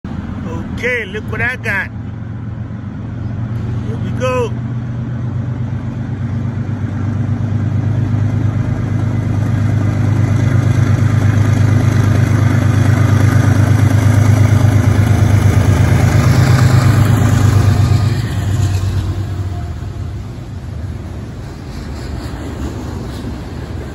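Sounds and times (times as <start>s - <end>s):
diesel locomotives droning: 0.0s - 23.9s.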